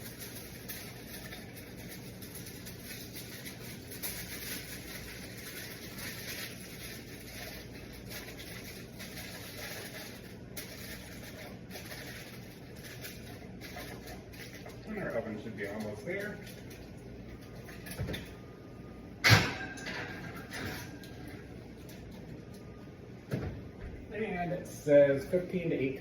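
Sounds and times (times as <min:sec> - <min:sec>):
aluminium foil crinkling: 0:00.0 - 0:18.5, 0:19.8 - 0:22.7
steady low hum: 0:00.0 - 0:26.0.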